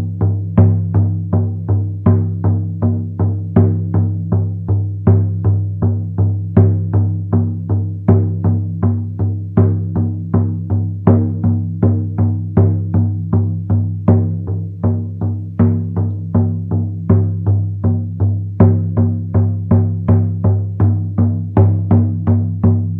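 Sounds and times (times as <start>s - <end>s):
frame drum beaten in steady rhythm: 0.0s - 22.9s.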